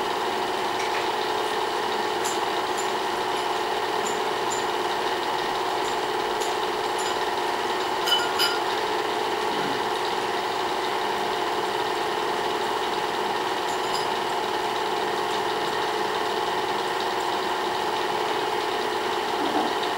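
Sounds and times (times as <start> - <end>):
film projector humming: 0.0 - 19.9.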